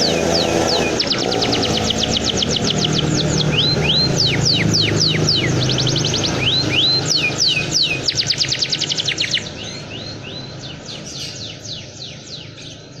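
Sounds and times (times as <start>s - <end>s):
canary singing: 0.0s - 12.9s.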